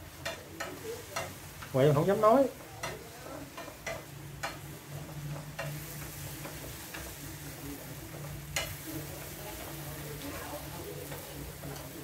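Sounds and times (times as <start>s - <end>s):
food sizzling in a frying pan: 0.0s - 12.0s
utensil tapping a pan: 0.0s - 12.0s.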